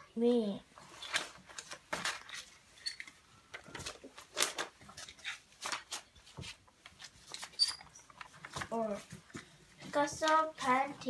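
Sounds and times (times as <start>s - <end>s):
paper pages rustling: 0.8s - 11.0s.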